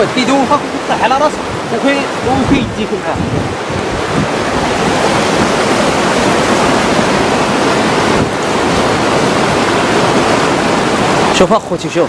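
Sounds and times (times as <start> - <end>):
muddy water rushing: 0.0 - 12.0.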